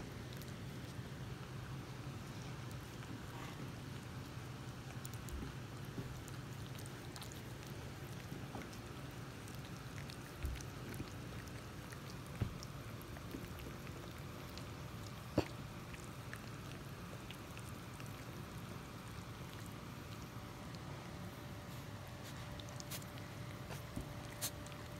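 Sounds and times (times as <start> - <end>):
low steady hum: 0.0 - 24.9
puppies licking: 0.0 - 24.9.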